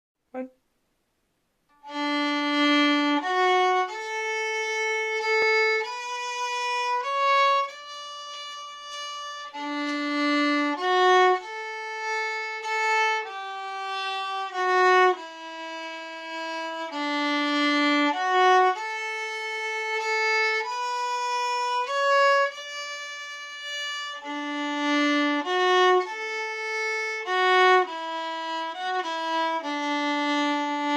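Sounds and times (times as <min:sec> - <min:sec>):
solo fiddle tune: 0:01.7 - 0:30.9.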